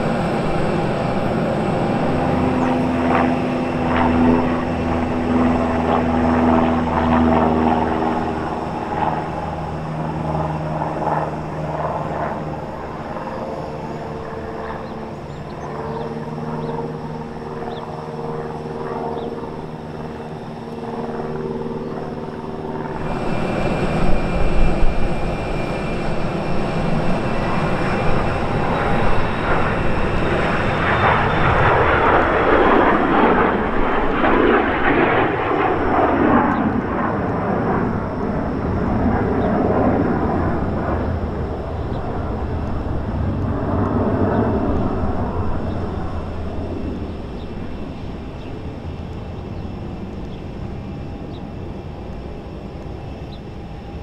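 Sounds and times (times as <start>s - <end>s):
jet engines whining at takeoff: 0.0s - 54.0s
propeller plane engine humming: 0.0s - 54.0s.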